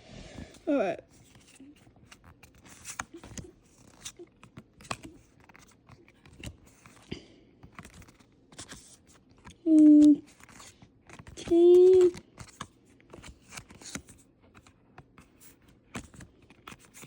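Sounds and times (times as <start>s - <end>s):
cards and foil wrapper crinkling: 1.2s - 17.0s.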